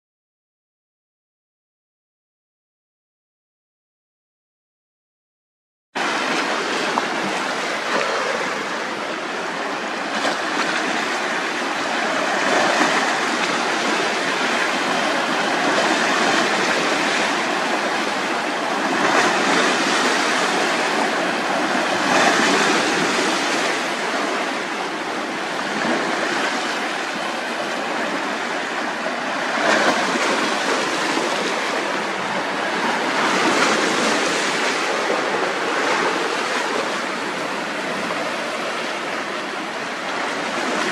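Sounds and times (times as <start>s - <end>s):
lake waves washing ashore: 6.0s - 40.9s.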